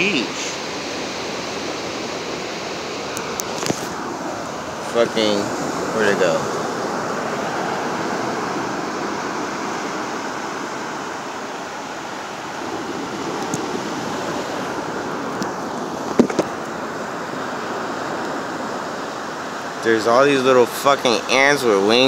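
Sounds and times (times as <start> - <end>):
surf washing on beach: 0.0 - 22.0.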